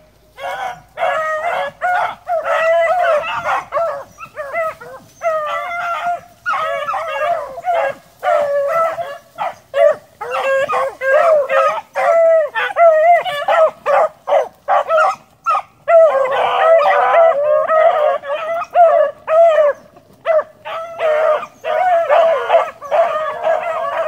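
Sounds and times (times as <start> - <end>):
pack of hounds baying: 0.3 - 24.0.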